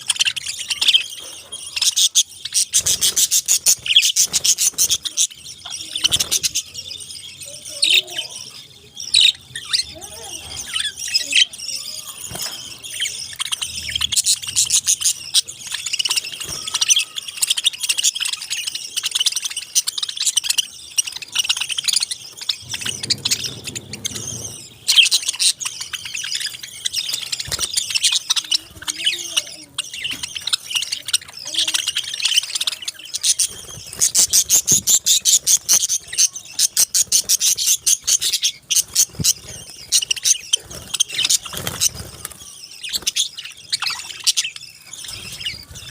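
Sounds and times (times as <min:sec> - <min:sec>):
parakeets chirping and chattering: 0:00.0 - 0:45.9.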